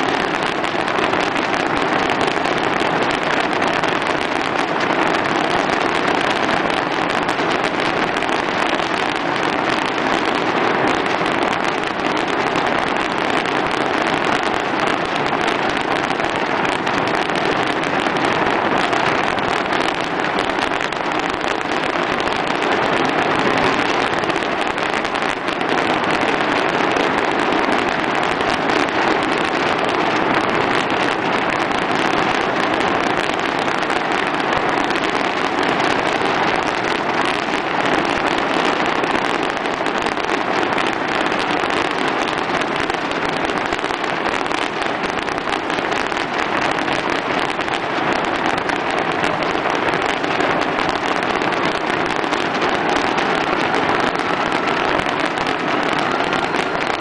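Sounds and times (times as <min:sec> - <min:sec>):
fireworks crackling and bursting: 0:00.0 - 0:57.0.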